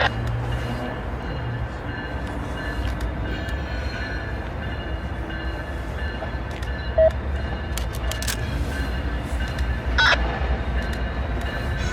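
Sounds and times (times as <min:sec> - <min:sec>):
train rumbling: 0:00.0 - 0:11.9.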